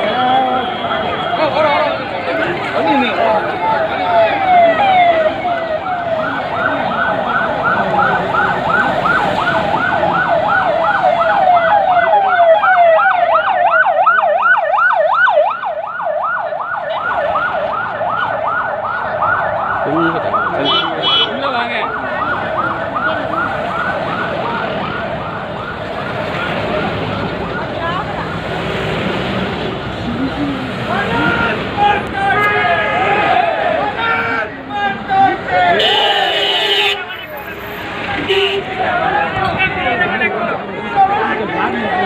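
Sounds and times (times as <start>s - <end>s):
emergency sirens yelping: 0.0s - 42.0s.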